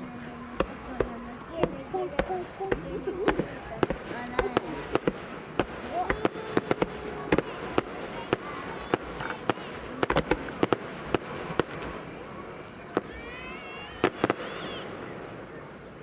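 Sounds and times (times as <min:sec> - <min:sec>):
high insect trill: 0:00.0 - 0:16.0
firework shells bursting: 0:00.6 - 0:16.0.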